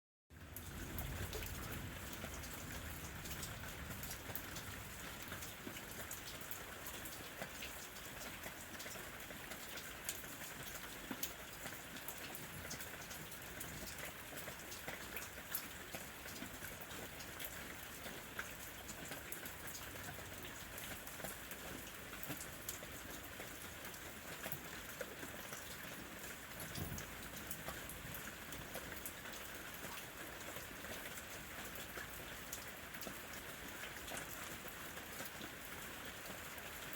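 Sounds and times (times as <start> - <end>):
steady rain: 0.3 - 36.9.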